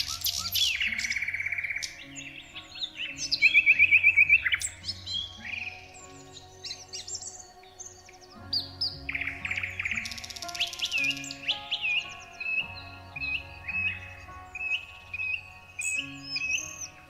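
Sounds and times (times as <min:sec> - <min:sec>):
soft music bed: 0:00.0 - 0:17.0
songbirds chirping and trilling: 0:00.0 - 0:17.0.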